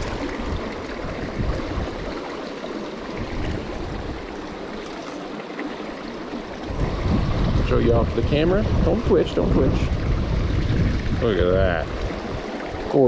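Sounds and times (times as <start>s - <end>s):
river water rushing: 0.0s - 7.6s, 8.7s - 13.0s.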